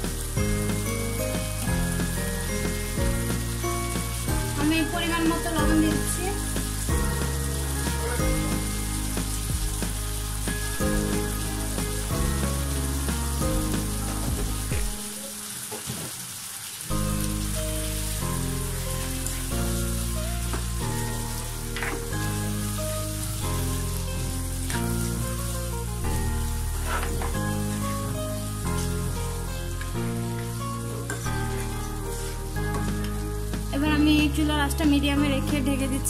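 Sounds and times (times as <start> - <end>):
background music with low notes: 0.0 - 15.4, 16.9 - 36.0
meat sizzling in oil: 0.0 - 36.0.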